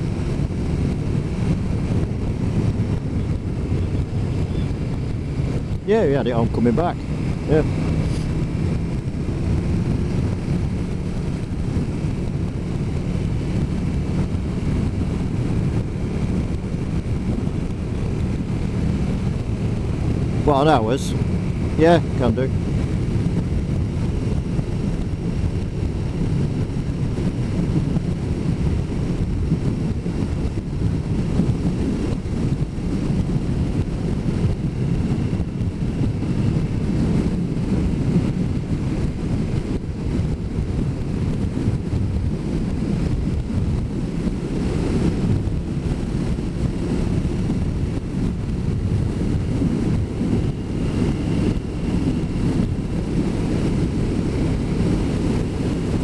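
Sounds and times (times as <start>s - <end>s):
motorcycle engine droning: 0.0s - 56.0s
wind rush on microphone: 0.0s - 56.0s.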